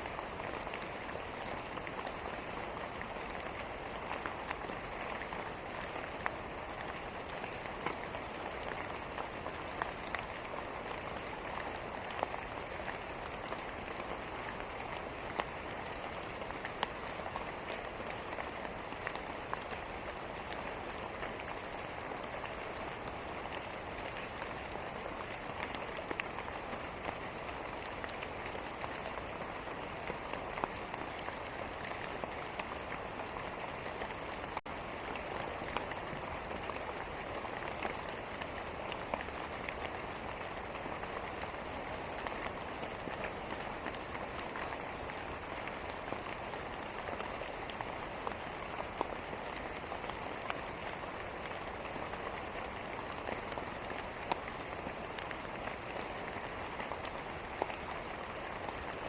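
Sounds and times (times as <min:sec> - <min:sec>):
rain falling: 0:00.0 - 0:59.0
raindrops ticking on surface: 0:00.0 - 0:59.0.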